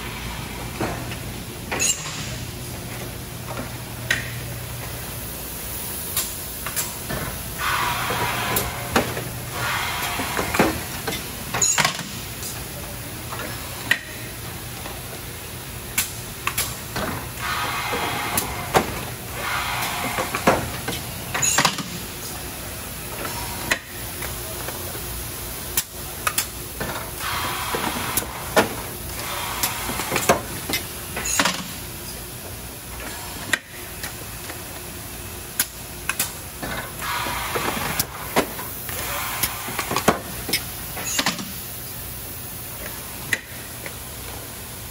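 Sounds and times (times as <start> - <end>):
machinery humming: 0.0 - 44.9.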